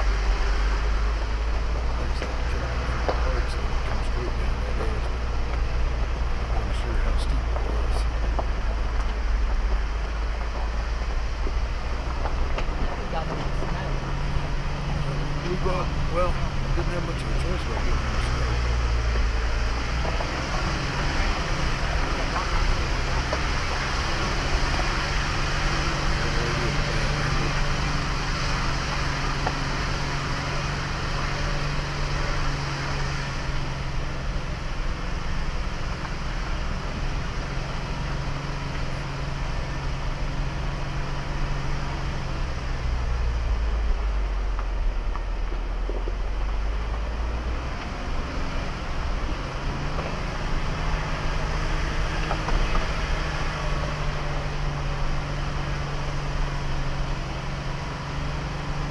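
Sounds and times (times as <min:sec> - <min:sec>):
tyres on gravel: 0:00.0 - 0:58.9
vehicle engine running: 0:00.0 - 0:58.9
wind: 0:00.0 - 0:58.9.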